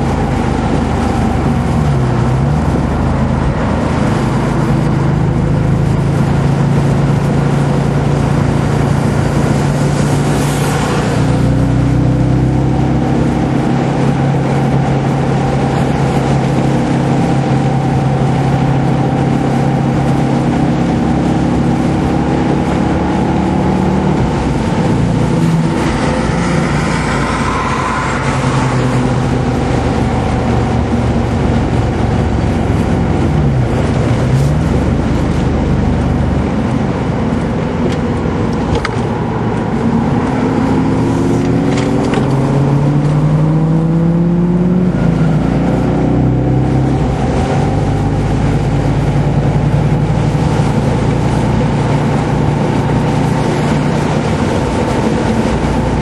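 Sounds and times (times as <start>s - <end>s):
car engine running hard: 0.0s - 56.0s
road and wind noise: 0.0s - 56.0s.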